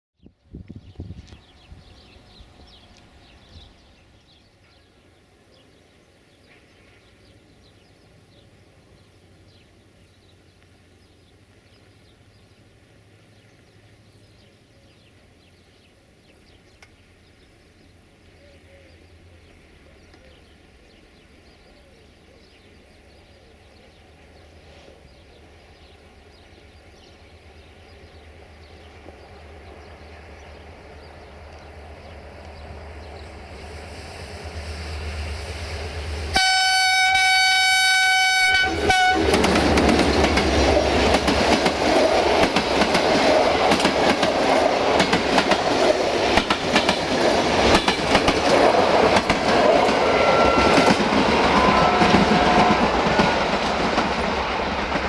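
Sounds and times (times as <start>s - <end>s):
birds chirping: 0.2s - 55.0s
outdoor ambience: 0.2s - 55.0s
diesel locomotive drone: 0.5s - 55.0s.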